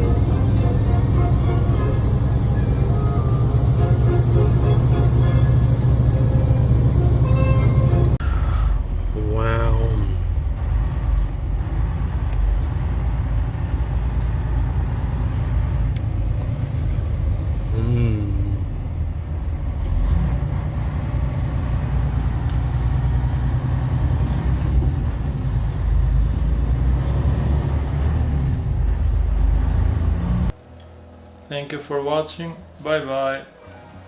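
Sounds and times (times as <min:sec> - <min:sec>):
road noise: 0:00.0 - 0:31.5
vehicle engine drone: 0:00.0 - 0:31.5.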